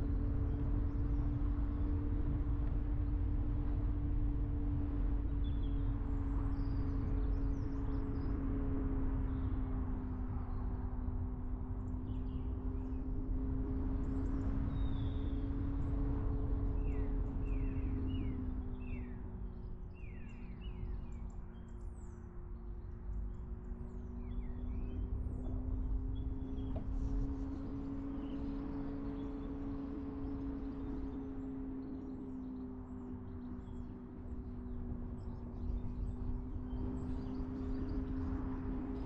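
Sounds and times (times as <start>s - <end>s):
road and wind noise: 0.0s - 39.0s.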